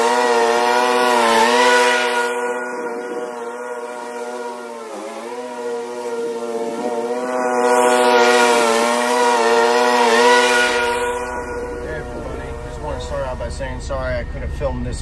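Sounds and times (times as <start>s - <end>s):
riding lawn mower engine hum: 0.0s - 15.0s.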